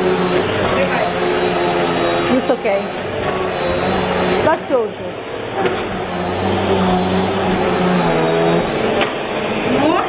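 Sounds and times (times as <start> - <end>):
vacuum cleaner motor whine: 0.0 - 10.0.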